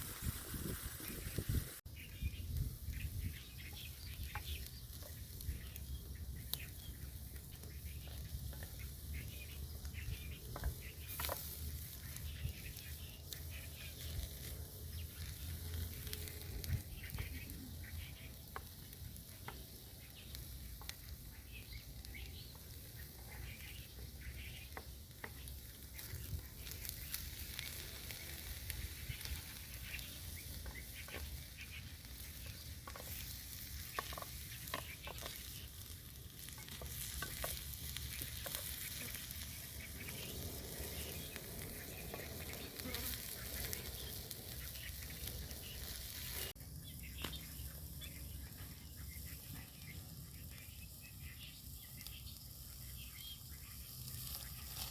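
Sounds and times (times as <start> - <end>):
food sizzling in a frying pan: 0.0 - 1.8, 2.8 - 46.6.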